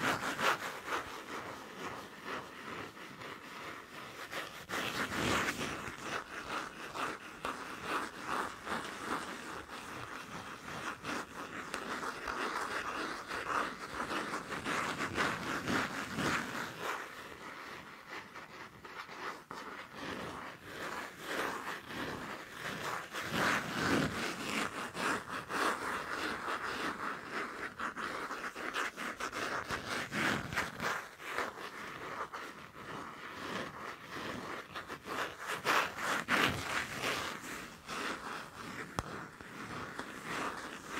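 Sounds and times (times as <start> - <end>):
scratching and tapping on paper: 0.0 - 40.9.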